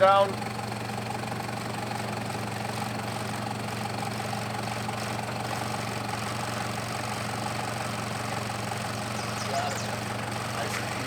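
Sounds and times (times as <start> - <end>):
truck engine droning low revs: 0.0 - 11.0.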